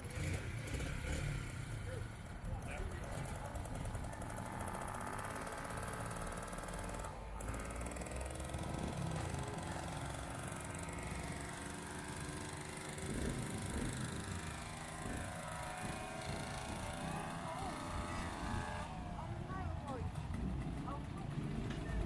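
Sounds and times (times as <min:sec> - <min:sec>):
moped engines revving: 0:00.0 - 0:22.0.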